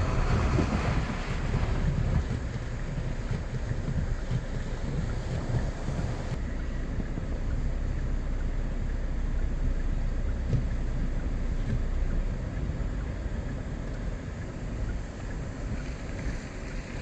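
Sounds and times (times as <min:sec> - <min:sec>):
wind buffeting microphone: 0:00.0 - 0:08.7, 0:09.6 - 0:17.0.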